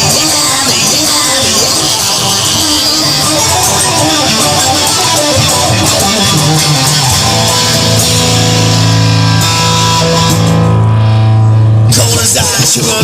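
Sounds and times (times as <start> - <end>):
instrumental rock guitar: 0.0 - 13.0
sustained low bass notes: 1.4 - 13.0.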